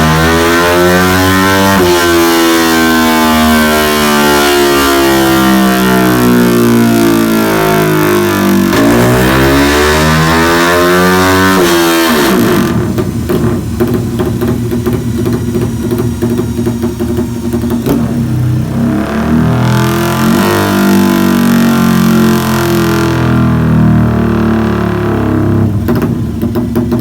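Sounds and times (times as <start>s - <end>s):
exhaust crackle: 0.0s - 27.0s
motorcycle engine revving: 0.0s - 27.0s.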